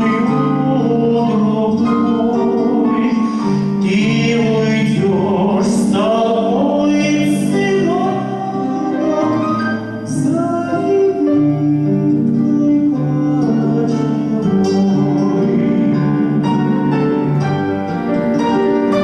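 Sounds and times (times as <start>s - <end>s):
man singing tenor: 0.0s - 17.5s
instrumental accompaniment: 0.0s - 19.0s.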